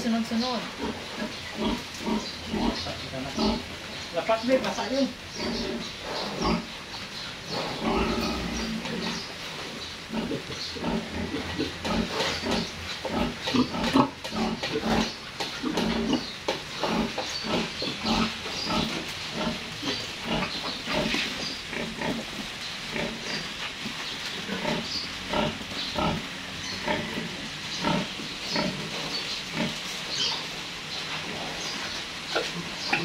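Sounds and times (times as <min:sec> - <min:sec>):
sow and piglets grunting: 0:00.4 - 0:09.3, 0:10.0 - 0:23.5, 0:24.3 - 0:30.4.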